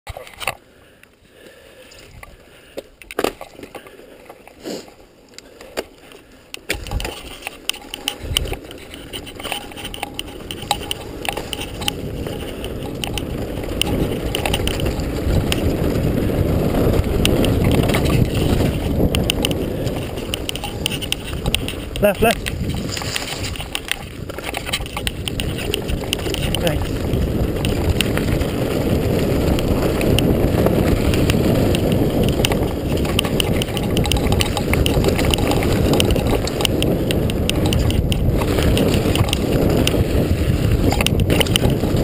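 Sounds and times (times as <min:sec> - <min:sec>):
tyre noise on dirt: 0:01.4 - 0:42.0
wind rush on microphone: 0:01.9 - 0:02.5, 0:06.7 - 0:42.0
bike knocking and rattling: 0:02.0 - 0:42.0.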